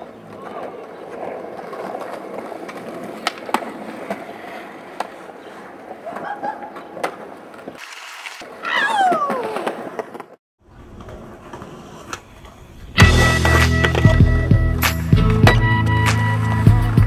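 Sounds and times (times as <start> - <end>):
skateboard popping and landing: 0.0 - 14.4
skateboard wheels rolling on concrete: 0.0 - 17.0.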